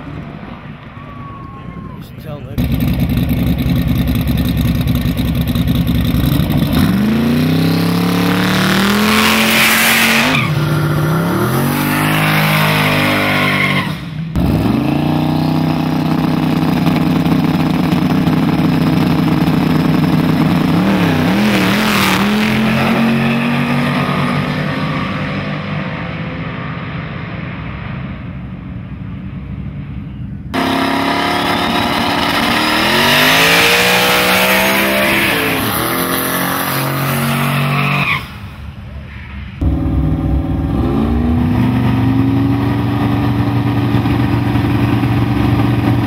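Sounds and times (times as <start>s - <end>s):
drag car engines revving: 0.0s - 46.0s
tires screeching: 0.0s - 46.0s.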